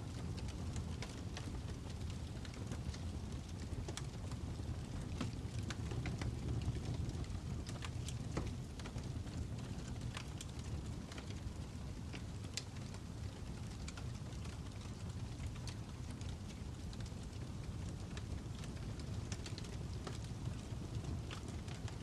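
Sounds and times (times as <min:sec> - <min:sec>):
fire crackling: 0:00.0 - 0:22.0.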